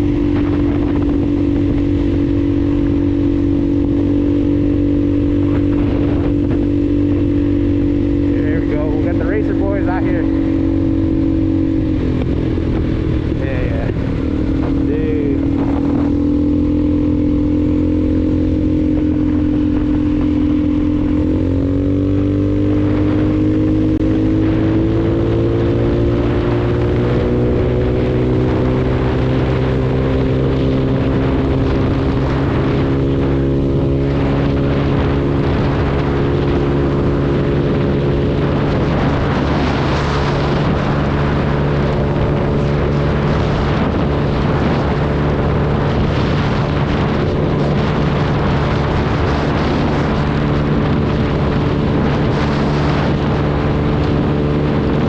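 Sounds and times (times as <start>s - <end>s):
motor scooter engine running: 0.0s - 55.0s
road noise: 0.0s - 55.0s
rushing wind: 0.0s - 55.0s.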